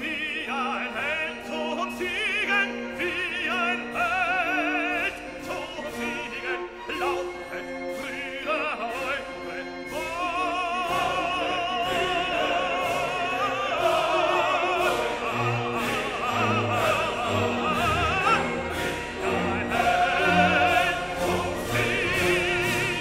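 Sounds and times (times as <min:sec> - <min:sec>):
operatic singing with orchestra: 0:00.0 - 0:23.0.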